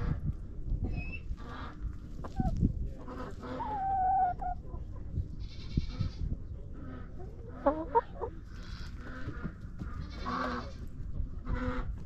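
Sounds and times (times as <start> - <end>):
hens calling: 1.2 - 12.0.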